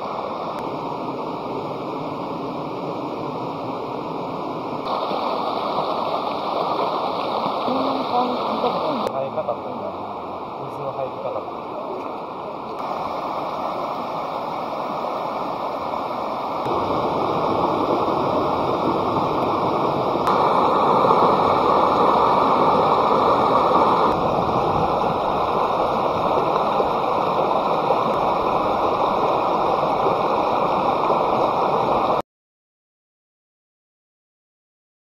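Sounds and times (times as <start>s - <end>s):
river water rushing: 0.0s - 32.2s.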